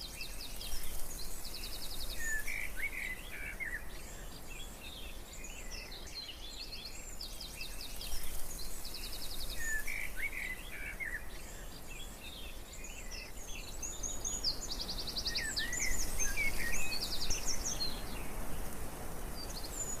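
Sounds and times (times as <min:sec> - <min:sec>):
wild birds chirping and trilling: 0:00.0 - 0:20.0.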